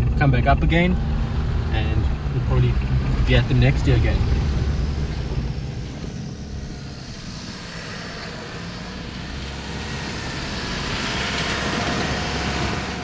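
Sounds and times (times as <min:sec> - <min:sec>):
pickup engine running low: 0:00.0 - 0:13.0.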